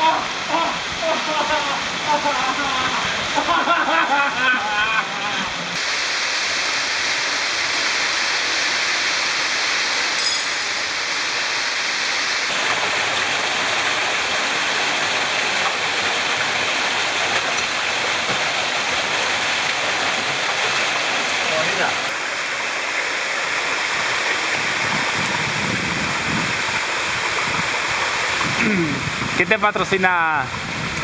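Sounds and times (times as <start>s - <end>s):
small waterfall pouring into pool: 0.0s - 31.0s.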